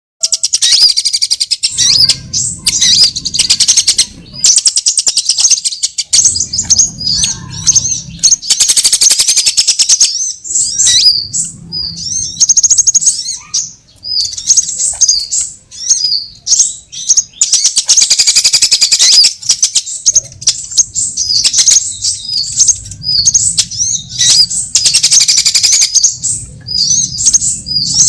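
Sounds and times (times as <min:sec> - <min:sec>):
sunbird trills and chirps: 0:00.2 - 0:28.0.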